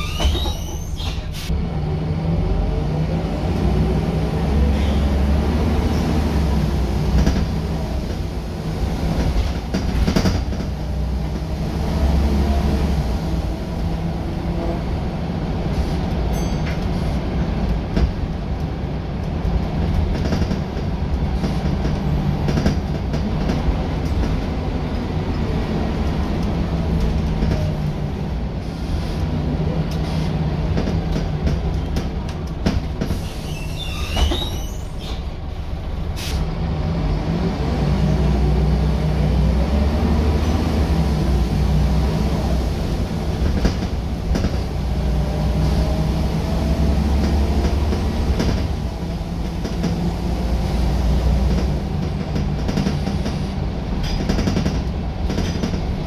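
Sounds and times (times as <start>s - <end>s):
bus diesel engine droning: 0.0s - 56.0s
road rumble: 0.0s - 56.0s.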